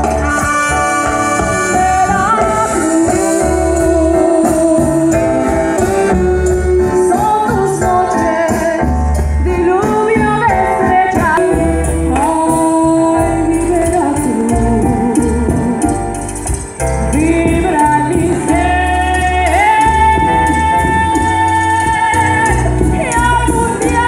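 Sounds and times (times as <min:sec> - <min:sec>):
band with steady beat and bass: 0:00.0 - 0:24.0.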